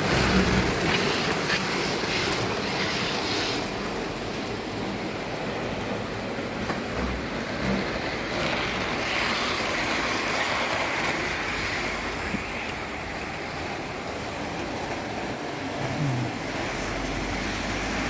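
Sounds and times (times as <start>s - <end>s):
model trains running on track: 0.0s - 18.0s.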